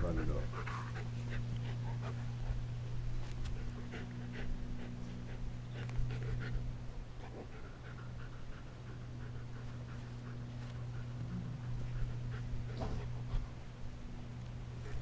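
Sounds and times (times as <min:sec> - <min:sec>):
dogs panting: 0:00.0 - 0:15.0
steady low hum: 0:00.0 - 0:15.0.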